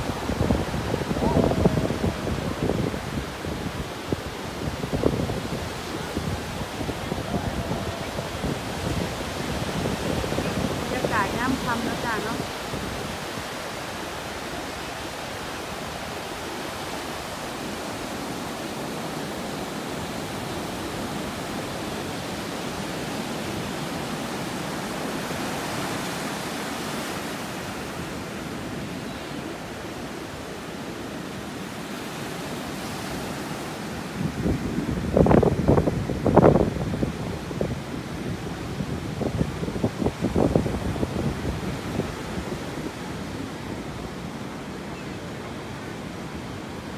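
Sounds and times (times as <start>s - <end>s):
surf breaking on beach: 0.0s - 46.9s.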